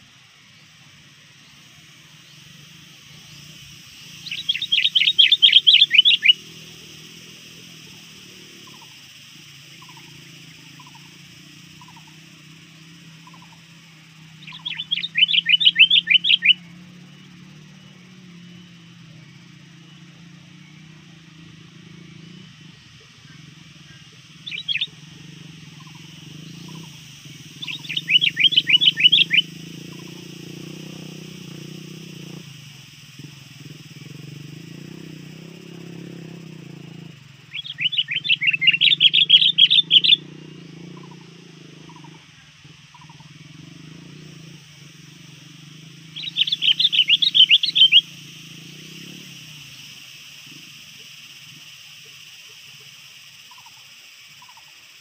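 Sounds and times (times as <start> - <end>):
bulbul calling: 0.0 - 54.8.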